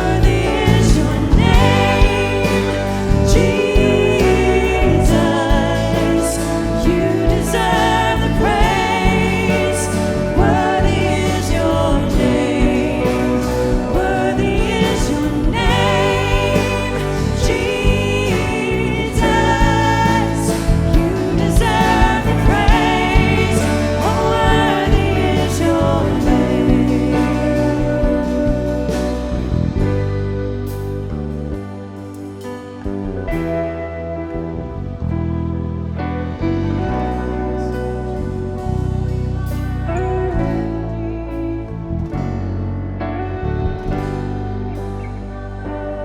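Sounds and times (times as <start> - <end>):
instrumental accompaniment with bass: 0.0 - 46.0
voices singing worship music: 0.0 - 46.0.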